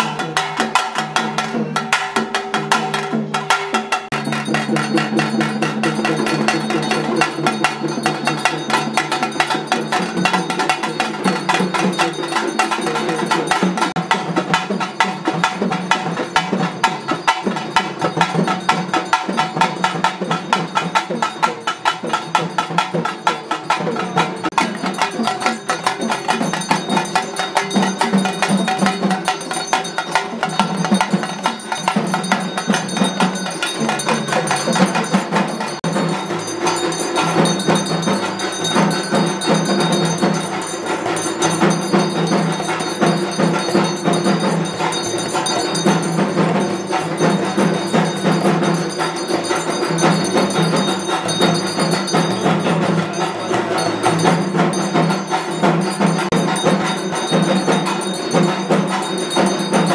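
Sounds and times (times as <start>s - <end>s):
hand drums: 0.0s - 59.9s
ringing bells: 0.0s - 59.9s.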